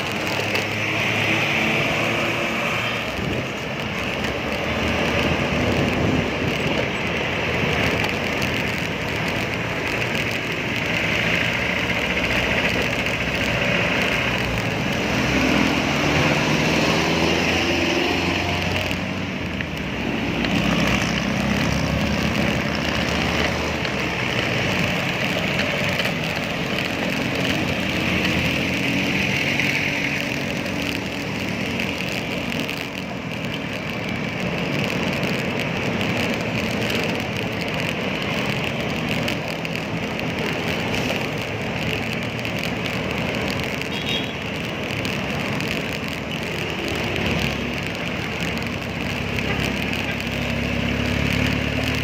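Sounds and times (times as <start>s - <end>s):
city road traffic: 0.0s - 52.0s.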